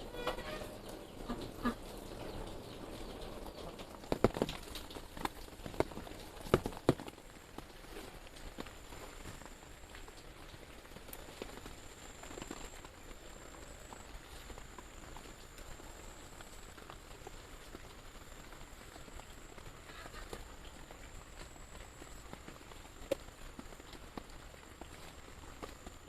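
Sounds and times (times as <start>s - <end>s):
light rain hissing: 0.0s - 26.0s
drips and ticks: 0.1s - 26.0s.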